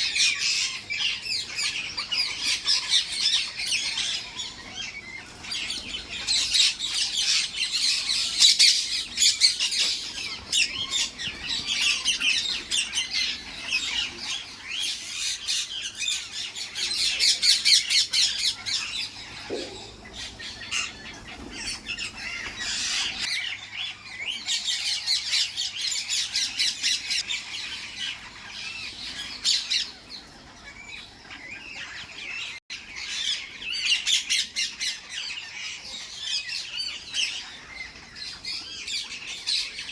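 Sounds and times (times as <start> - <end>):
parrots squawking and chattering: 0.0 - 39.9.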